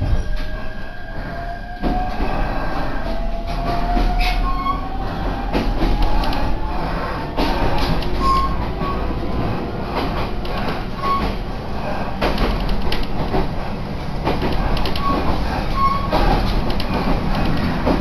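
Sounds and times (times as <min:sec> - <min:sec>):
train rumble inside carriage: 0:00.0 - 0:18.0
wheels clicking over rail joints: 0:03.0 - 0:18.0.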